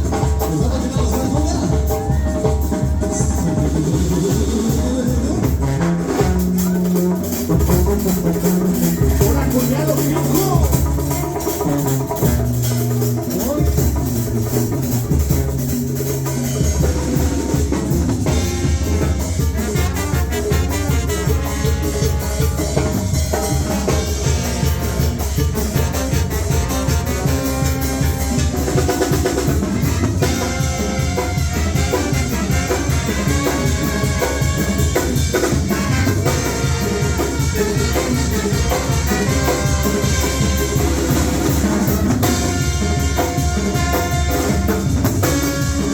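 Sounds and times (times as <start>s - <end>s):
salsa-like music with percussion: 0.0s - 45.9s.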